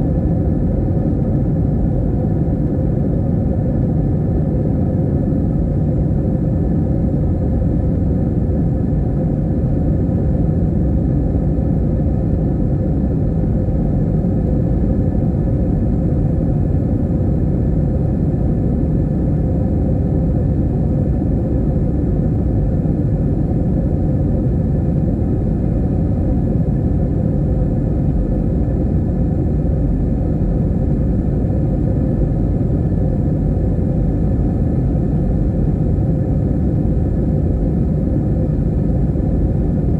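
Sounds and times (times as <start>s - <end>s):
airliner engine and airflow rumble: 0.0s - 39.9s
faint steady hum: 0.0s - 39.9s.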